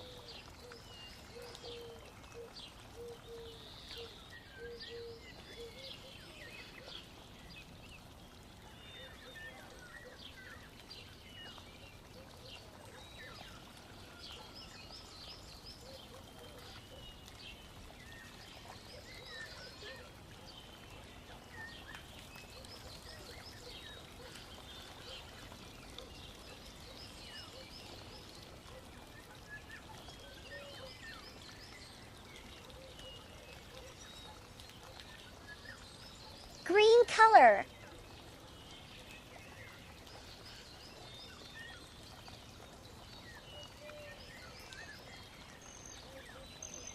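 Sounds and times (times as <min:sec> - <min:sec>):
faint birdsong chirps and trills: 0:00.0 - 0:46.9.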